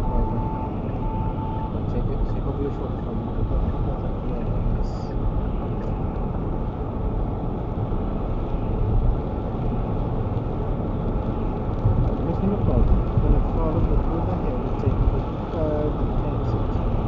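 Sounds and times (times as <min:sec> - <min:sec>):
car engine running: 0:00.0 - 0:17.0
road noise on wet road: 0:00.0 - 0:17.0.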